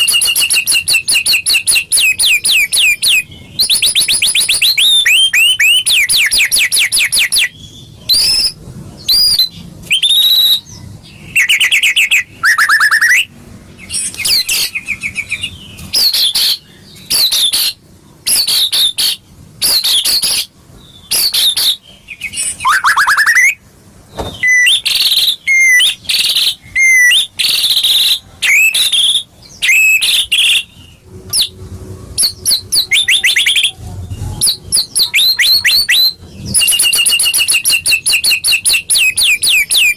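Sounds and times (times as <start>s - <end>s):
songbird singing trills and whistles: 0.0s - 31.6s, 32.2s - 39.9s.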